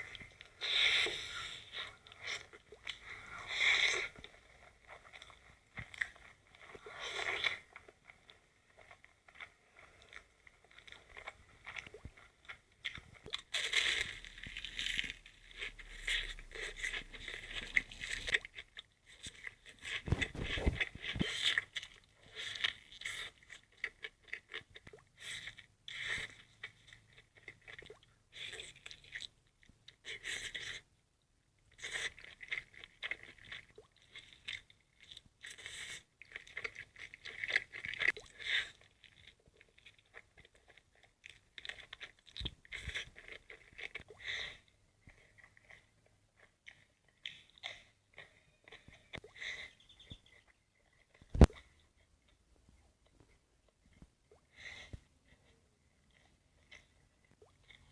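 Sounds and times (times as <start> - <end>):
crunchy food being chewed: 0.0 - 30.9, 31.6 - 57.9.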